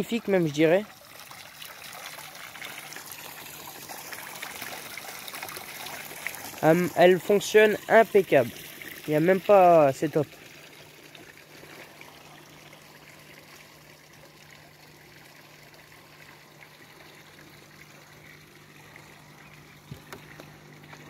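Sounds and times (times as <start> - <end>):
water trickling faintly: 0.0 - 21.0.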